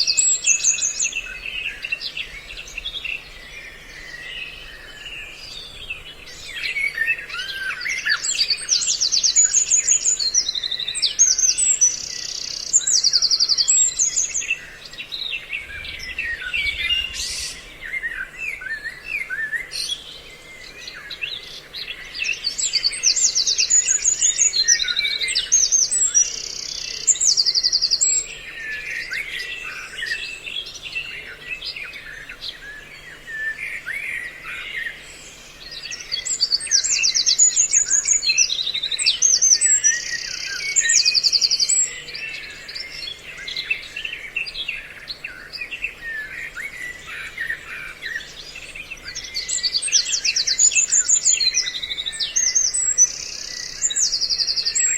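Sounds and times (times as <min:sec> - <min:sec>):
songbird chirps and trills: 0:00.0 - 0:54.9.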